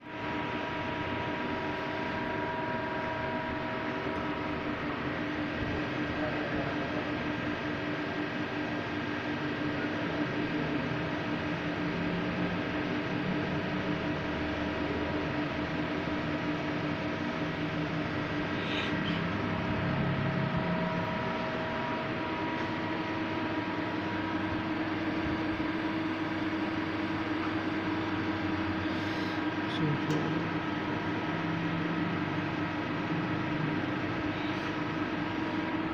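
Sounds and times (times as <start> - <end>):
lathe running: 0.0 - 35.9
machine hum and whir: 0.0 - 35.9.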